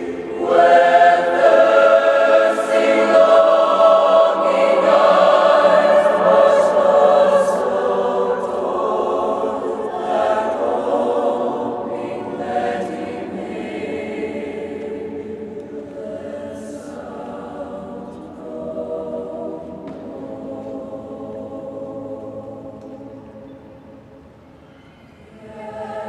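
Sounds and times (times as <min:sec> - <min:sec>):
choir singing sustained chords: 0:00.0 - 0:26.0.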